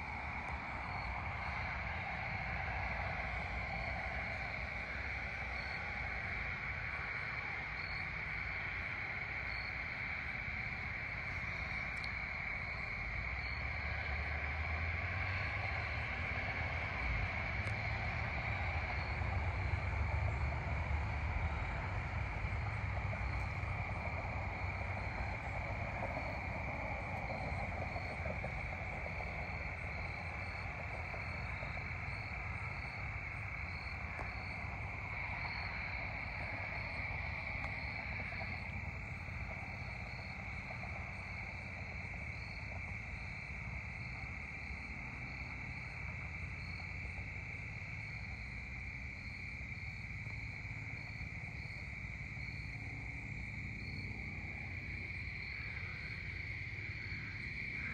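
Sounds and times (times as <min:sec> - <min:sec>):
crickets trilling: 0:00.0 - 0:57.9
low steady rumble: 0:00.0 - 0:57.9.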